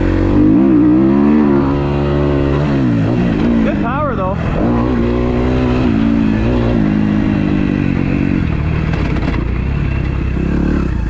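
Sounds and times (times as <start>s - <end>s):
motocross engine revving: 0.0s - 11.0s.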